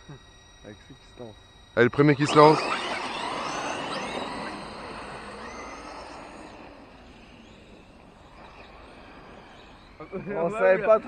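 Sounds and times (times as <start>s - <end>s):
high motor whine: 0.0s - 11.0s.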